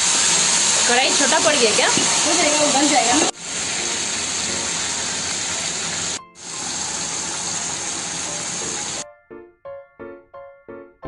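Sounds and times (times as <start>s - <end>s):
onions sizzling in hot oil: 0.0s - 9.0s.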